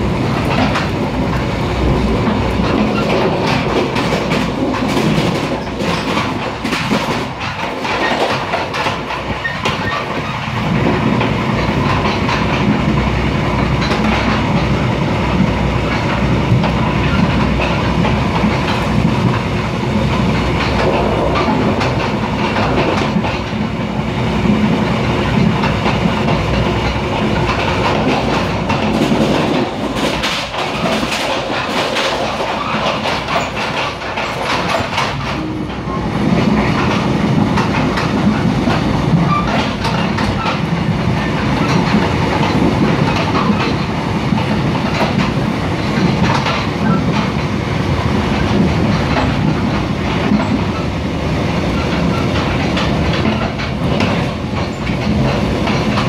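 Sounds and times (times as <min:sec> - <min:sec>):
clicks of wheels on rails: 0:00.0 - 0:56.0
train wheels rumbling on rails: 0:00.0 - 0:56.0.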